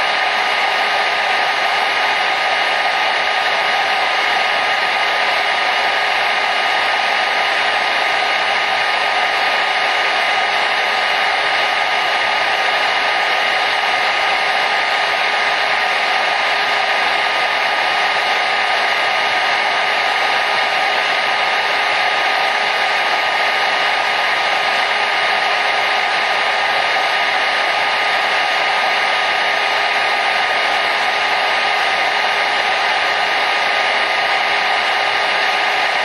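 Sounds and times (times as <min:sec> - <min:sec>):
hair dryer running: 0:00.0 - 0:36.0.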